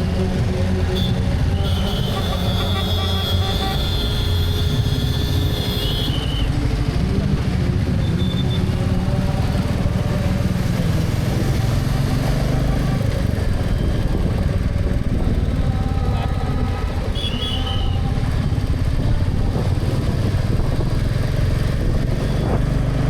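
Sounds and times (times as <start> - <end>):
motorcycle engine running: 0.0 - 23.0
road and traffic noise: 0.0 - 23.0.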